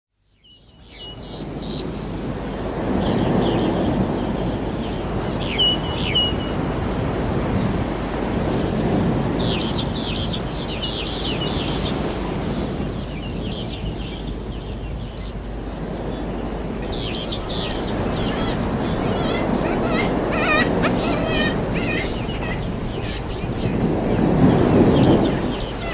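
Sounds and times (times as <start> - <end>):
waves washing: 1.2 - 25.9
small birds chirping: 3.0 - 8.2, 9.4 - 25.9.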